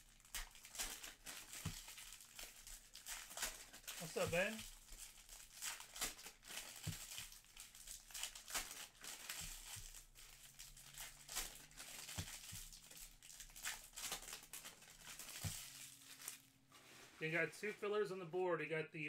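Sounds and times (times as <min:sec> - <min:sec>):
wrappers crinkling and tearing: 0:00.0 - 0:16.5.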